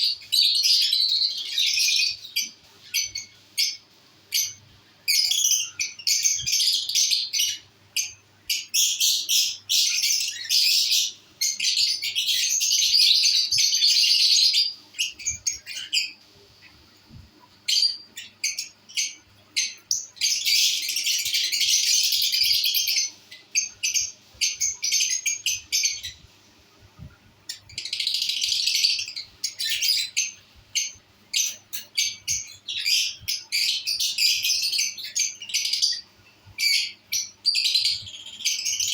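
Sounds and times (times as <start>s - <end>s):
lovebirds chattering: 0.0s - 26.3s, 27.0s - 38.9s.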